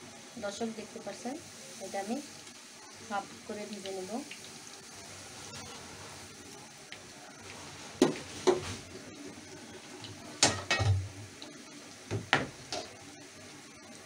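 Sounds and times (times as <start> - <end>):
fries sizzling in hot oil: 0.0 - 14.0.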